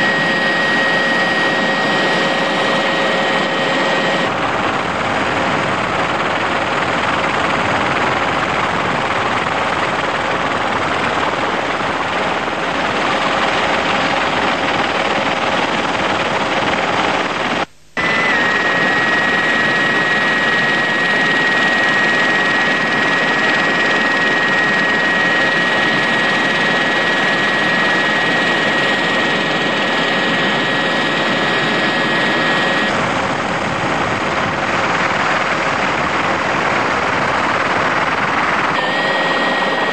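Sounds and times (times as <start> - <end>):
steady high whine: 0.0 - 7.2, 10.4 - 39.9
helicopter engine and rotor: 0.0 - 39.9.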